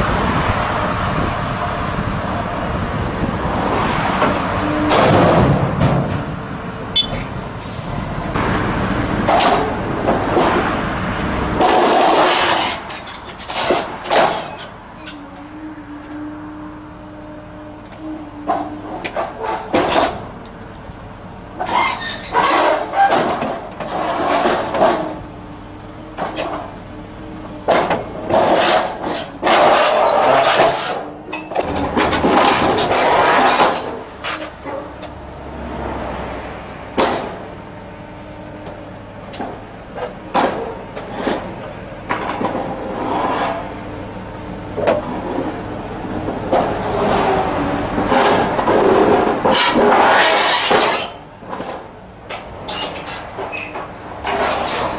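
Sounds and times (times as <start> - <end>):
excavator engine humming: 0.0 - 13.2, 13.9 - 49.9.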